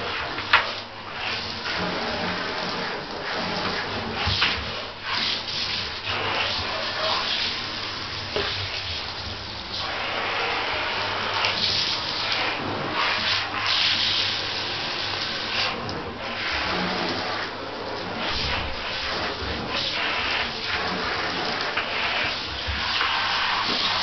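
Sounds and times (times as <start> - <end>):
water running into bathtub: 0.0 - 24.0.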